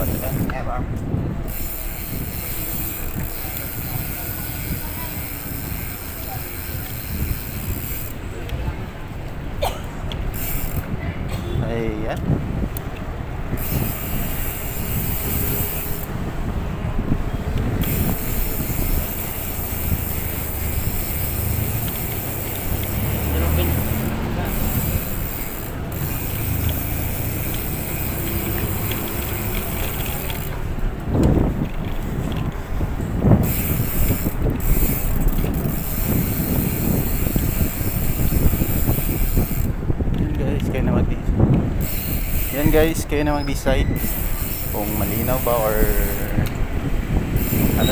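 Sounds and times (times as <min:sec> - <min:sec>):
road and wind noise: 0:00.0 - 0:47.9.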